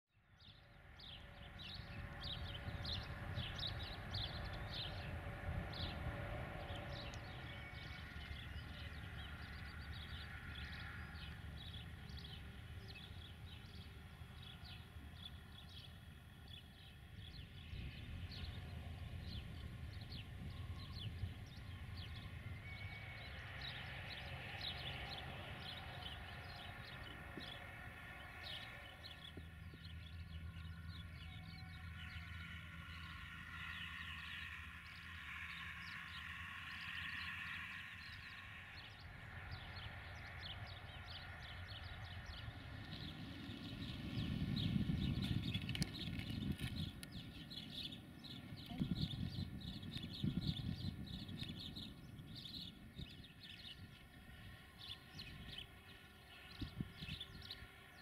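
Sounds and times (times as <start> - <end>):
birds chirping: 0.4 - 58.0.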